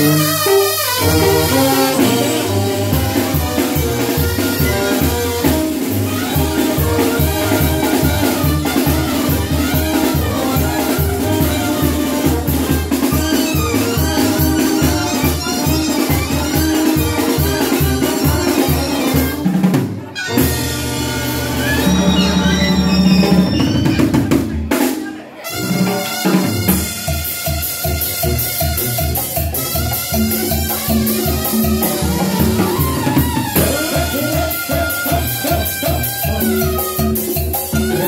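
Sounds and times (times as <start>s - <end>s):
drum kit: 0.0s - 38.0s
live dance band playing: 0.0s - 38.0s
trumpets and trombone: 0.0s - 38.0s.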